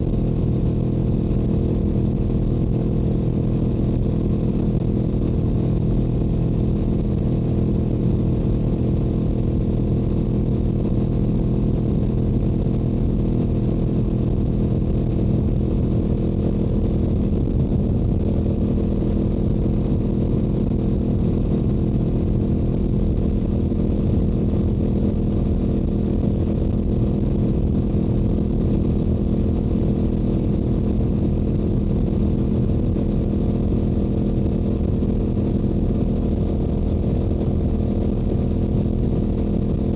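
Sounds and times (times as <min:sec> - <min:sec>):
motorcycle exhaust cruising: 0:00.0 - 0:39.9.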